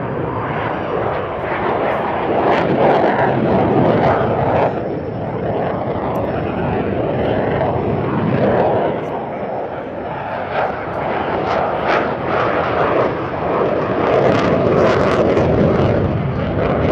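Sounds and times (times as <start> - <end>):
jet roar overhead: 0.0 - 16.9.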